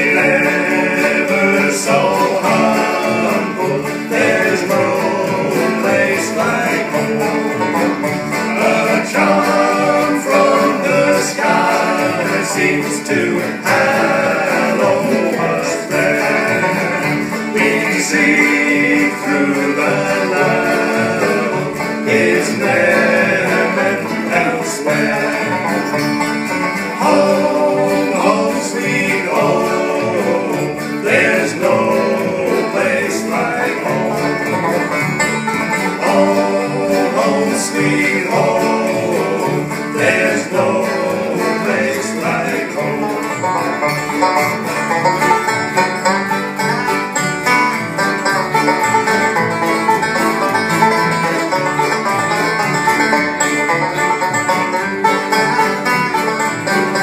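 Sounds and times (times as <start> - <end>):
bluegrass band playing: 0.0 - 57.0.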